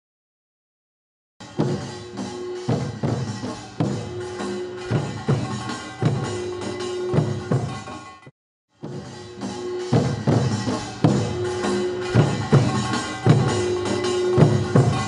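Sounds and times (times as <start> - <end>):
drums striking slow beat: 1.4 - 8.0, 8.8 - 15.0.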